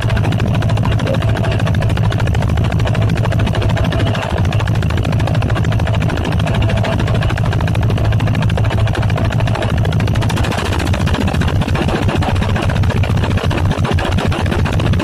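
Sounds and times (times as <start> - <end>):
boat engine with even knock: 0.0 - 15.0.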